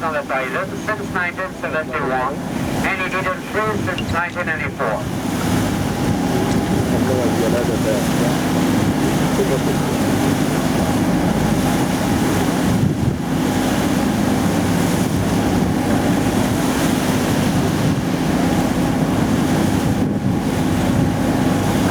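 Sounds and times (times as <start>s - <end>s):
boat engine running: 0.0s - 21.9s
water rushing past hull: 0.0s - 21.9s
wind buffeting microphone: 2.2s - 21.9s.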